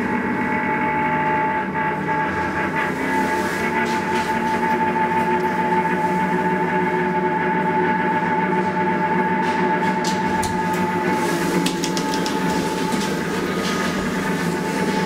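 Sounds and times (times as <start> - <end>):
elevator humming and whining: 0.0 - 15.0.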